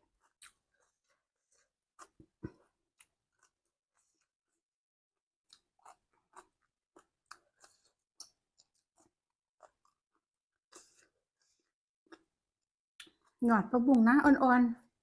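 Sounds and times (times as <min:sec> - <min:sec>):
chewing and crunching food: 0:00.0 - 0:13.4.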